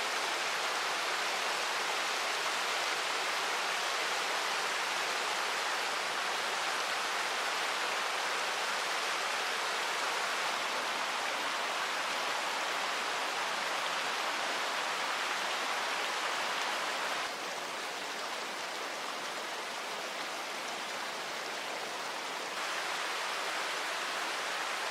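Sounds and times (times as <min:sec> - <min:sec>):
water rushing: 0:00.0 - 0:24.9.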